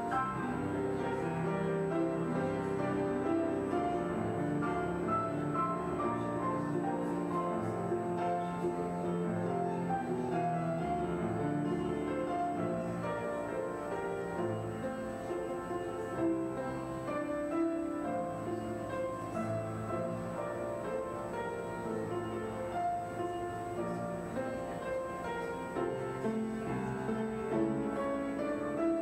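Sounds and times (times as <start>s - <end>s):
slow keyboard chords: 0.0s - 29.0s.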